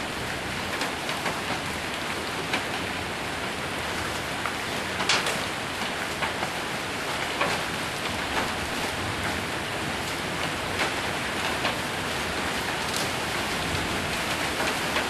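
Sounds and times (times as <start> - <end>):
hail and rain on a roof: 0.0 - 15.0.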